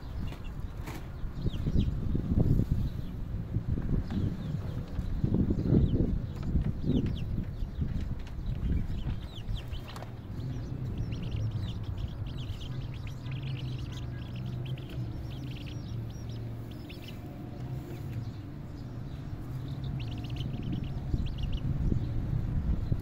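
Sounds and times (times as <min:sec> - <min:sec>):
chicks peeping: 0:00.0 - 0:23.0
low steady rumble: 0:01.4 - 0:23.0.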